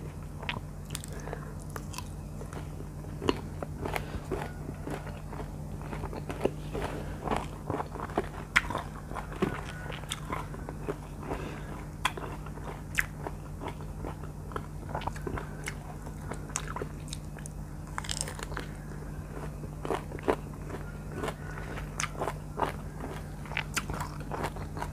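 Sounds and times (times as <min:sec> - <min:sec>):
crunchy chewing: 0:00.0 - 0:24.9
steady low hum: 0:00.0 - 0:24.9.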